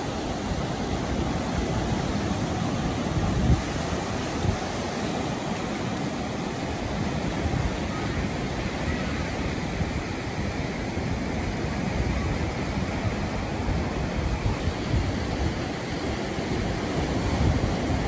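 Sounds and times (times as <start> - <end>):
ocean surf on a beach: 0.0 - 18.0.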